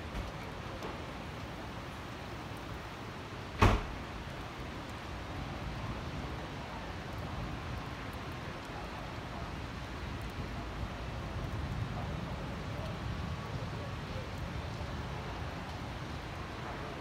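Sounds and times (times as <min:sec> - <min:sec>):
distant city traffic hum: 0:00.0 - 0:17.0
rain hissing: 0:00.0 - 0:17.0.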